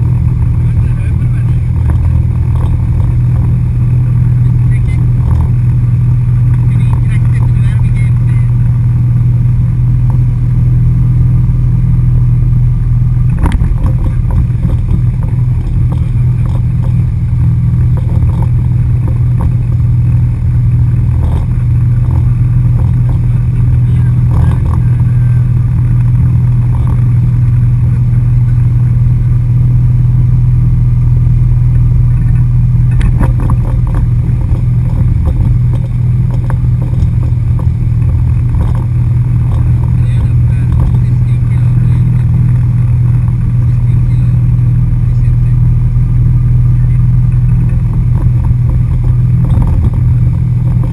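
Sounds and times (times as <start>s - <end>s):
boat engine drone: 0.0s - 50.9s
wind: 0.0s - 50.9s.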